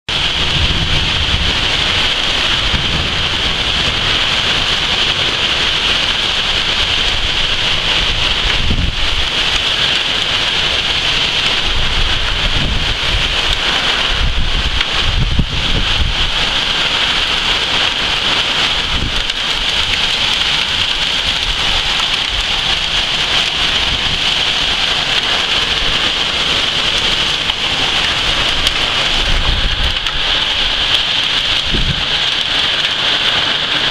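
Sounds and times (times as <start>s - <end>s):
heavy rain pouring: 0.1s - 33.9s
low thunder rumbles: 0.1s - 33.9s.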